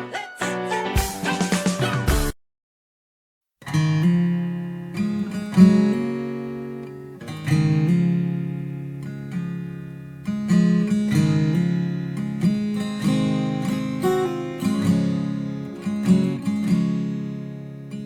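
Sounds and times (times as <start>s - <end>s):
acoustic guitar strumming chords: 0.0s - 2.4s, 3.6s - 18.0s.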